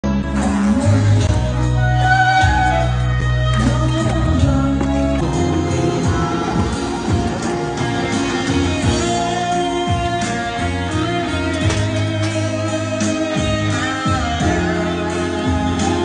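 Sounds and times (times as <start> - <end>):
song with guitar and bass: 0.0 - 16.0.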